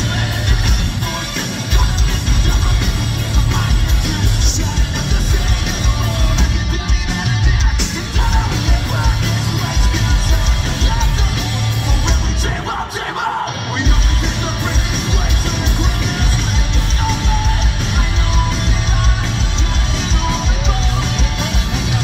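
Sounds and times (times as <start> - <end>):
bass guitar: 0.0 - 22.0
drums: 0.0 - 22.0
electric guitar: 0.0 - 22.0
shouted vocals: 0.0 - 22.0.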